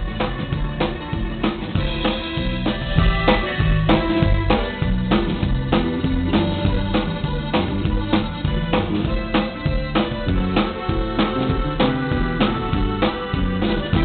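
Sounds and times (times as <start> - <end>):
bass and pitched instruments: 0.0 - 14.0
drum kit playing a steady beat: 0.0 - 14.0.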